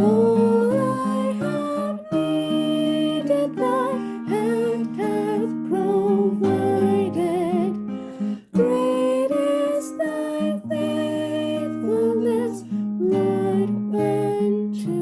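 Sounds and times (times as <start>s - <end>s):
acoustic guitar: 0.0s - 15.0s
person singing with vibrato: 0.0s - 15.0s.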